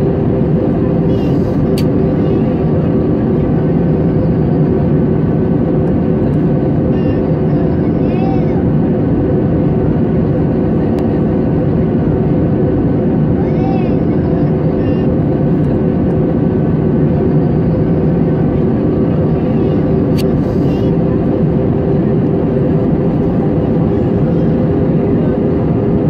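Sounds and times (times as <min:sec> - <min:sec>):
jet airliner cabin rumble: 0:00.0 - 0:26.0.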